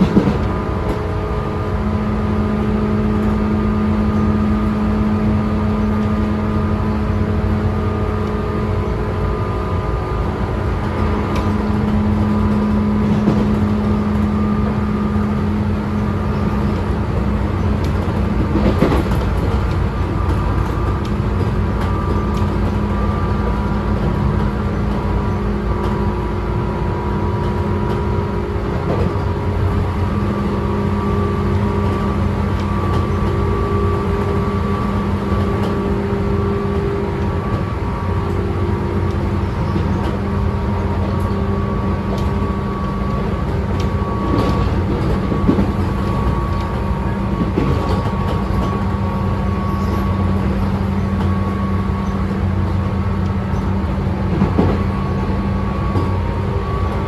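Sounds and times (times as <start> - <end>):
electric train motor hum: 0.0 - 57.0
rail joint clicks: 0.0 - 57.0
wheel and rail rumble: 0.0 - 57.0.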